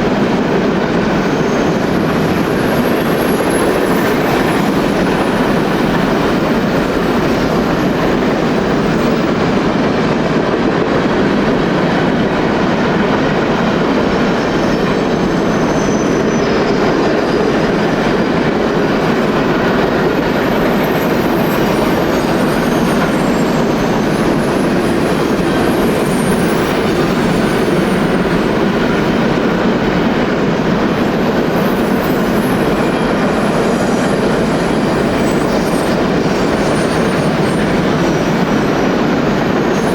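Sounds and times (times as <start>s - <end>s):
high wheel squeals: 0.0s - 9.8s, 13.3s - 39.9s
clickety-clack of rails: 0.0s - 39.9s
train wheels rumbling on track: 0.0s - 39.9s.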